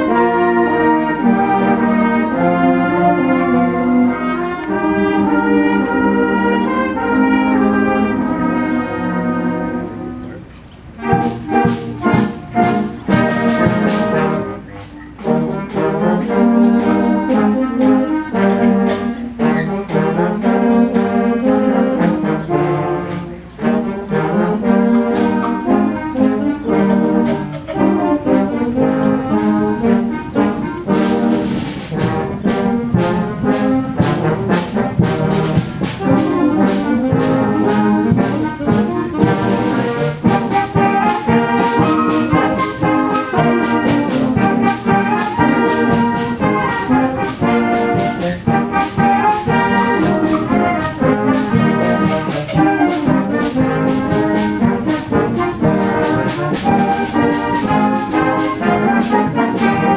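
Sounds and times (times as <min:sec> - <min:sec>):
wind band playing: 0:00.0 - 0:59.9.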